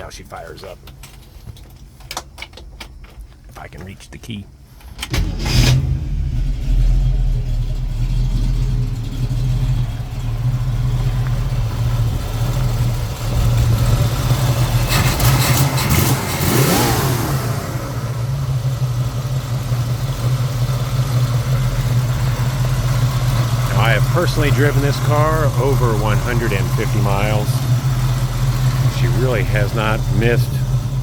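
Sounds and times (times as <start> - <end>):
car engine idling and revving: 5.0 - 31.0.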